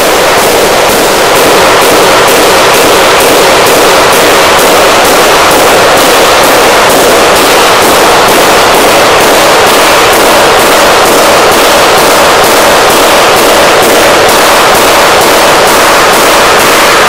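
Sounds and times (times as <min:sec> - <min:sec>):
very loud rapid bangs: 0:00.0 - 0:17.0.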